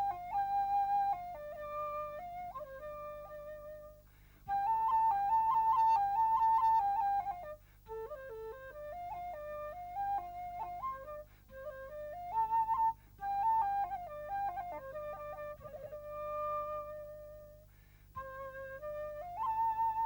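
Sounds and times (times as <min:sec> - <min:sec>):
bamboo flute melody: 0:00.0 - 0:20.0.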